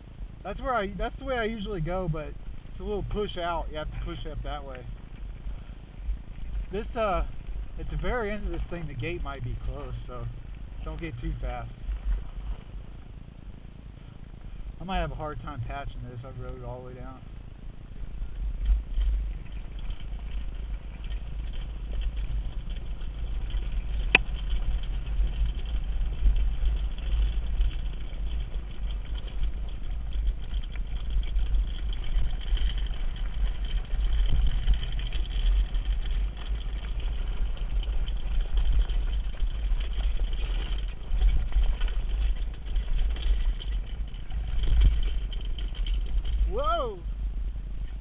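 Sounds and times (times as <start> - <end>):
tyres on dirt: 0.0 - 48.0.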